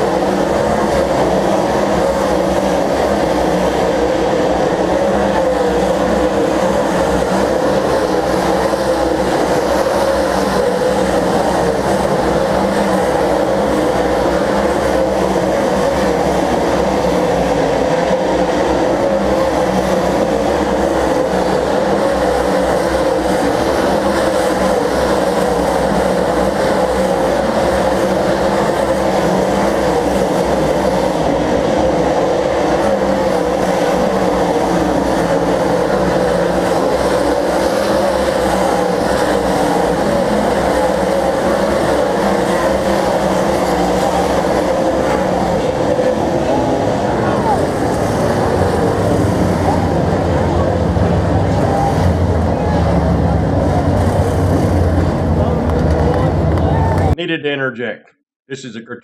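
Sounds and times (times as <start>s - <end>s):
stock car engines droning: 0.0s - 57.2s.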